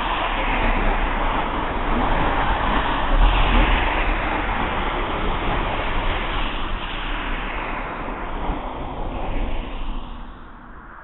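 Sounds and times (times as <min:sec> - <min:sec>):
car passing on street: 0:00.0 - 0:11.0.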